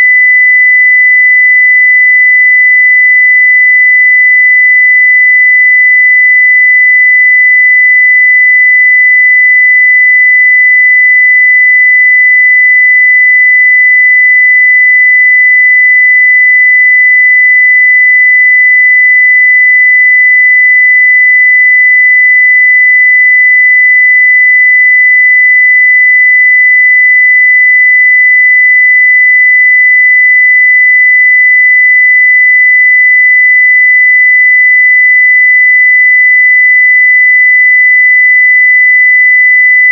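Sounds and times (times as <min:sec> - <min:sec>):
high sine-wave test tone: 0:00.0 - 0:39.9.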